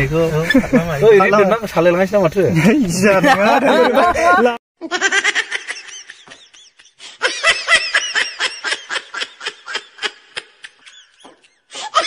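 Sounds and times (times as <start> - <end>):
man laughing: 0.4 - 1.3, 2.6 - 12.0.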